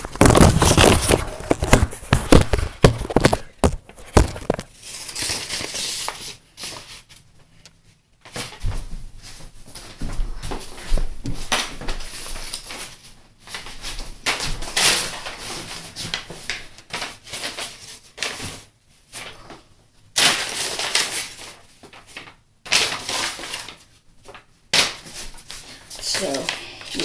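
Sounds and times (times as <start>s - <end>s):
paper crinkling and rustling: 0.0s - 7.3s, 8.2s - 27.0s.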